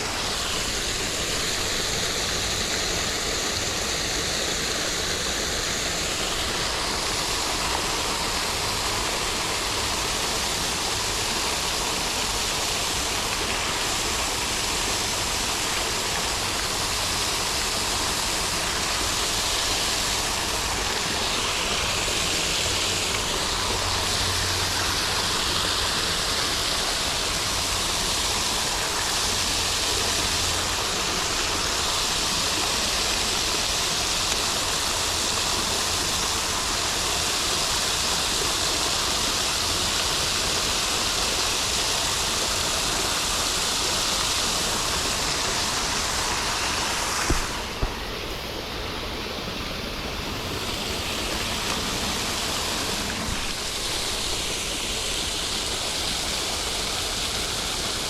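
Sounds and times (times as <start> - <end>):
water pouring over waterfall: 0.0 - 58.0.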